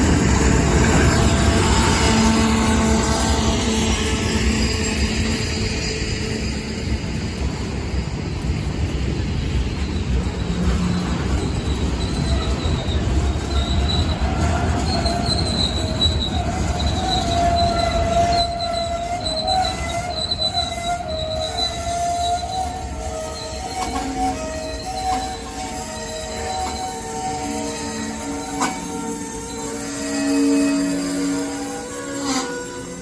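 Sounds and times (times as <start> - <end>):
train rumbling by: 0.0 - 33.0
wheels squealing on rails: 0.0 - 33.0.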